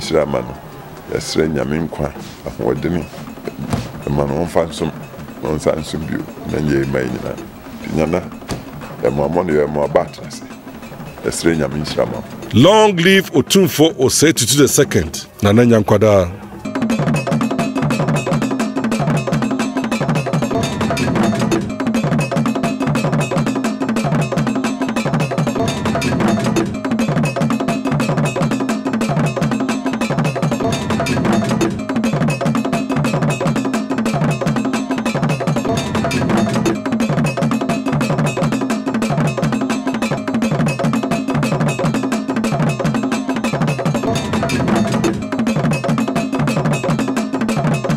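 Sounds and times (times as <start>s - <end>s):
struck iron bell pattern: 0.0s - 47.9s.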